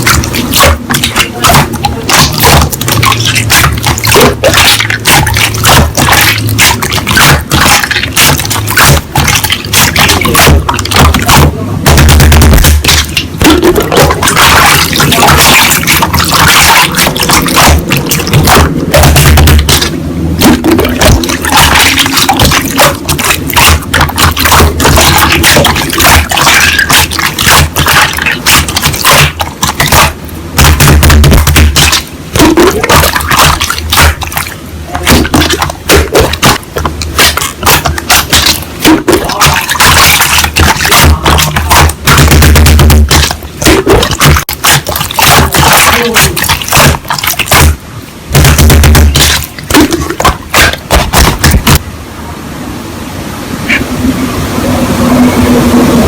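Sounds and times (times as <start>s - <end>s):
slime squishing by hand: 0.0s - 51.8s.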